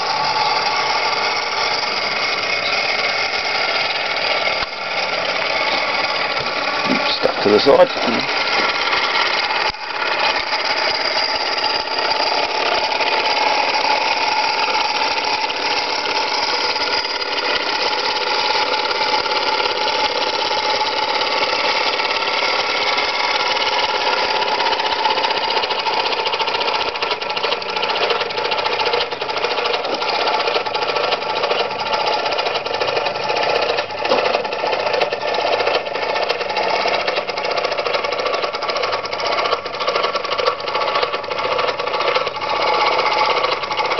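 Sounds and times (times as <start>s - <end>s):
model steam engine beating: 0.0s - 43.9s.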